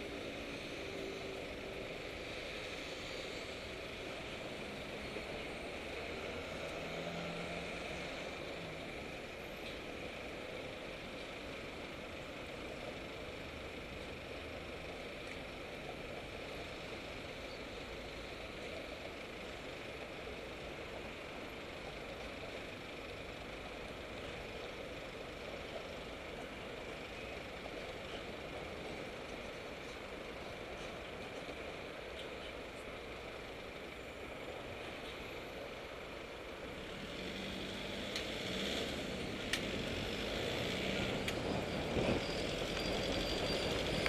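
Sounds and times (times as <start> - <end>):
city street traffic: 0.0 - 44.0.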